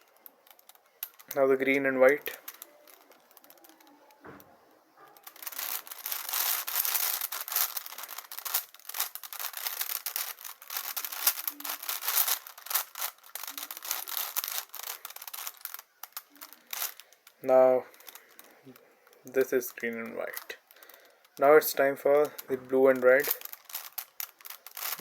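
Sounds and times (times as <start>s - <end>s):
puzzle cube clicking and rasping: 0.0s - 25.0s.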